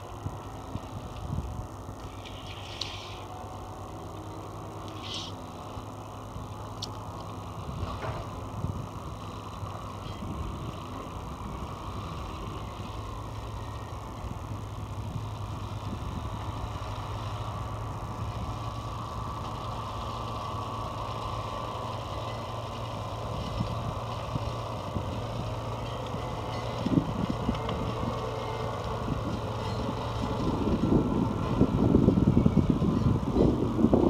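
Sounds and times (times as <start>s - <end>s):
machinery engine humming: 0.0s - 34.0s.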